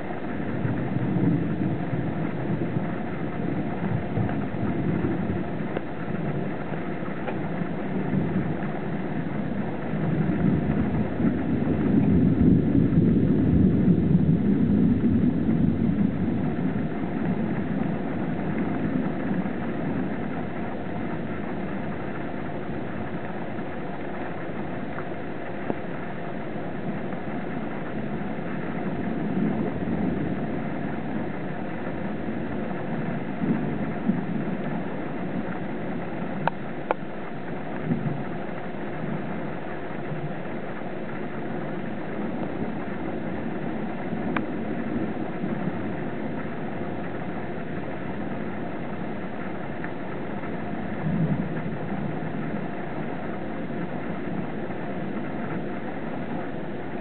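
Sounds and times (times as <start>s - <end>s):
thunder rumbling: 0.0s - 57.0s.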